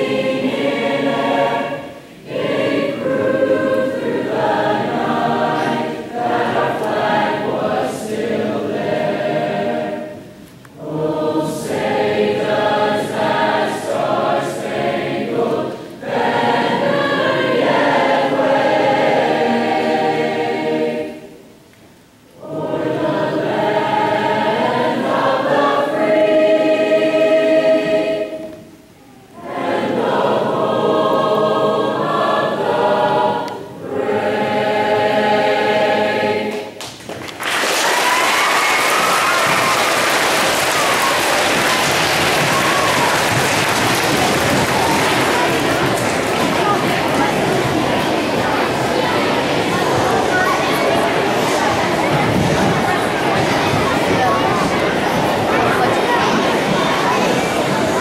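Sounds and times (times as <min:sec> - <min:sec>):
choir singing: 0:00.0 - 0:21.6, 0:22.2 - 0:36.8, 0:37.7 - 0:58.0.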